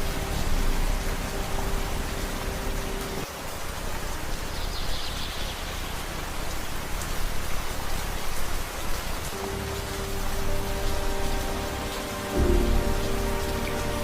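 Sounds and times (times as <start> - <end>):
rain falling in forest: 0.0 - 14.0.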